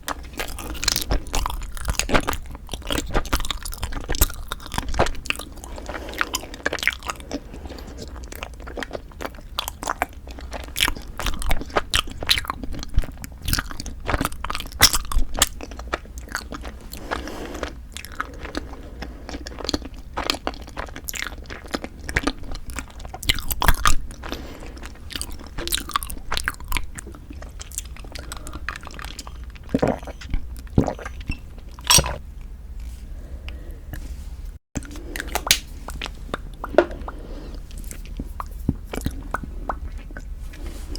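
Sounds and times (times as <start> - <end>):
chewing and biting: 0.0 - 32.2, 34.8 - 40.9.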